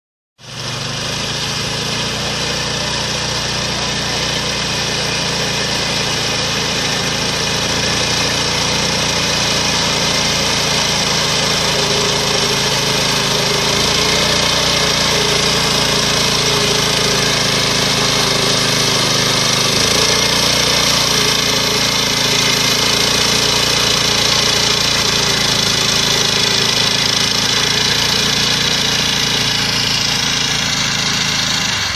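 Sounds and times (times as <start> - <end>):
diesel engine running steadily: 0.4 - 31.9.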